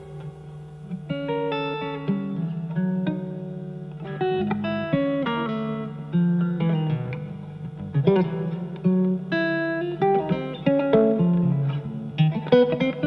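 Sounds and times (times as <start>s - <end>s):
guitar plucking single notes: 0.0s - 13.0s.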